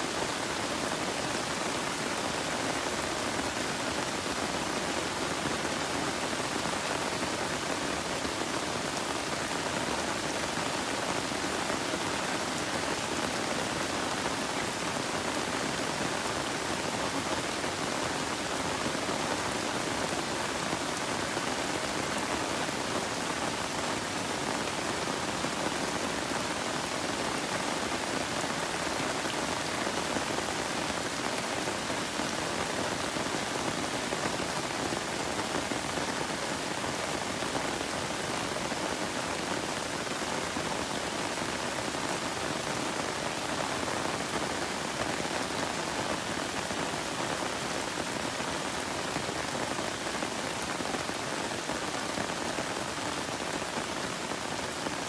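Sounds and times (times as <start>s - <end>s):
rain falling on leafy plants: 0.0s - 55.0s.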